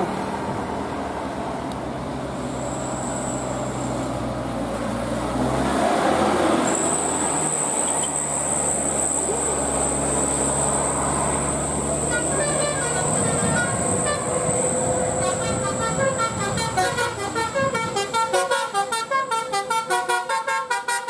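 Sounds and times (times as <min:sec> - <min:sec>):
large vehicle engine humming: 0:00.0 - 0:21.0
road traffic noise: 0:00.0 - 0:21.0.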